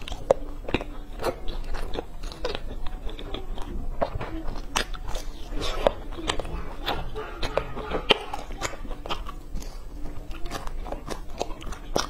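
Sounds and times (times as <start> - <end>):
chewing with crunches: 0.0 - 12.0
wet mouth noises: 0.0 - 12.0.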